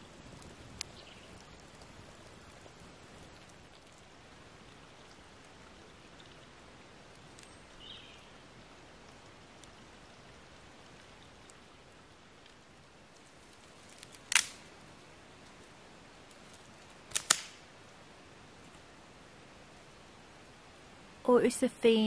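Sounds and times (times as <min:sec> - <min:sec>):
soft steady hiss: 0:00.0 - 0:22.0.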